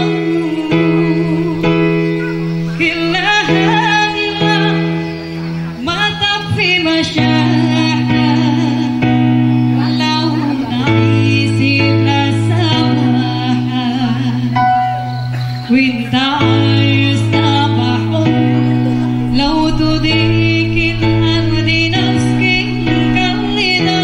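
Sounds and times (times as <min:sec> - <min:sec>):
keyboard chords: 0:00.0 - 0:24.0
woman singing into a microphone: 0:00.0 - 0:24.0.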